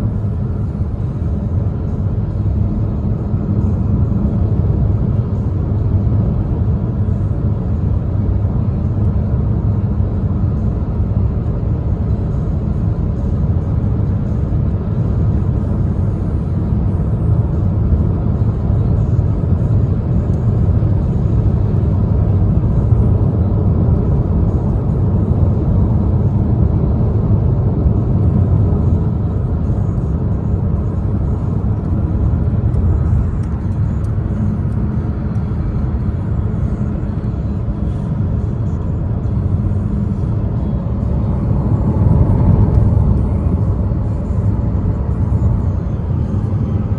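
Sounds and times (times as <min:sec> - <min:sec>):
road and engine rumble in car: 0:00.0 - 0:46.9.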